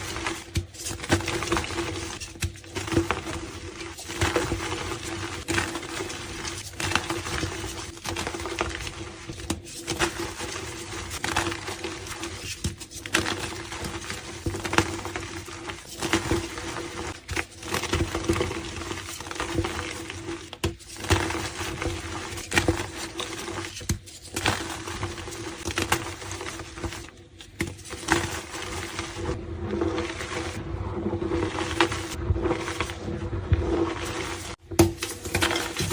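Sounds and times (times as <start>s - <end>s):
chalk crunching and crackling: 0.0s - 35.9s.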